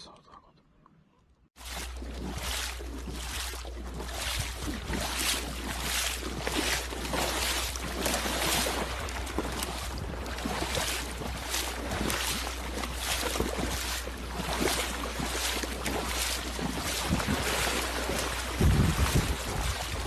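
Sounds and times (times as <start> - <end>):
steady low hum: 1.7 - 20.0
wind buffeting microphone: 2.2 - 20.0.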